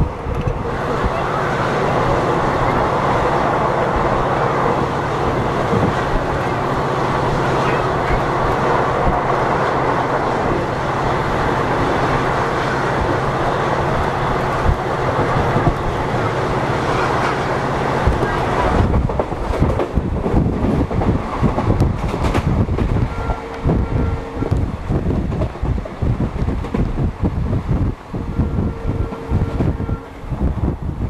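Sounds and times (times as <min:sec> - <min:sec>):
train rumbling at speed: 0:00.0 - 0:31.0
wind buffeting microphone: 0:00.0 - 0:31.0.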